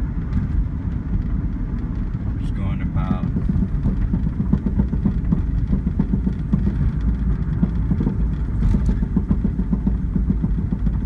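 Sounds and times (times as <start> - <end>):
car engine running: 0.0 - 11.0
low road rumble: 0.0 - 11.0.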